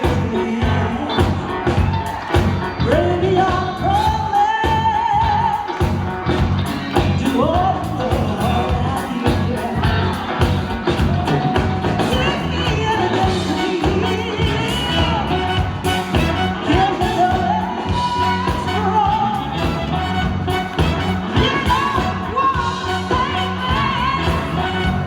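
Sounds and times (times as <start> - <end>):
woman singing: 0.0 - 2.2, 2.8 - 5.8, 6.9 - 25.0
backing music with steady beat: 0.0 - 25.0.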